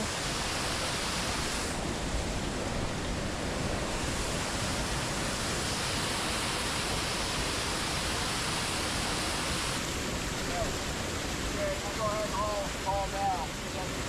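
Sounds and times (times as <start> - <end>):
whitewater rushing: 0.0 - 14.0.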